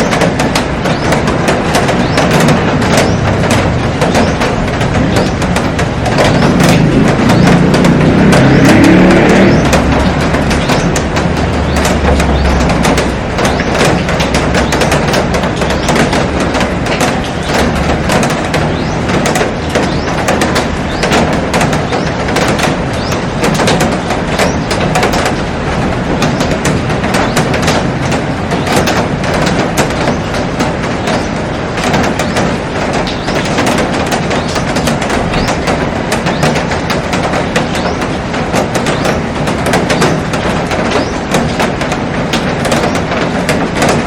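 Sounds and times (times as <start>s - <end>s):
heavy rain on glass roof: 0.0s - 44.0s.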